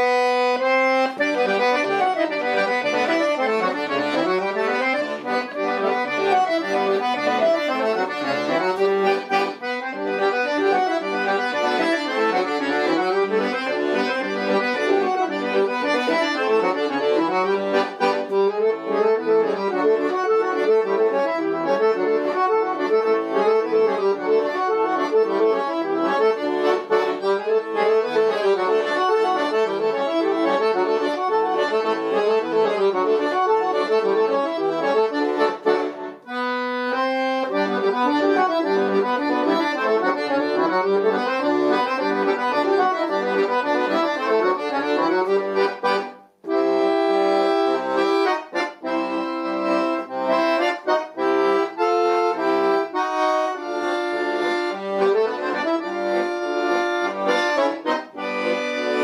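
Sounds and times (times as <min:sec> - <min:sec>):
accordion playing a polka: 0:00.0 - 0:59.0.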